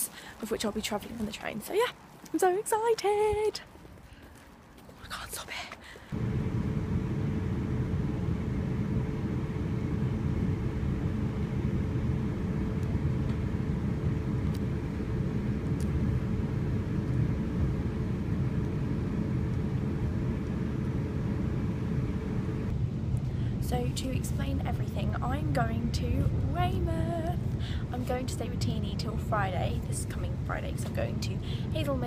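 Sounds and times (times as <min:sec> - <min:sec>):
constant hum: 0:00.0 - 0:32.0
train low rumble: 0:03.6 - 0:32.0.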